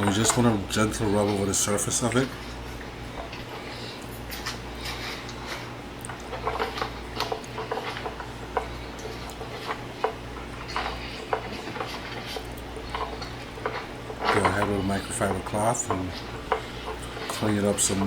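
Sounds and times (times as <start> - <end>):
steady low hum: 0.0 - 18.0
handling clicks and scrapes: 3.2 - 18.0.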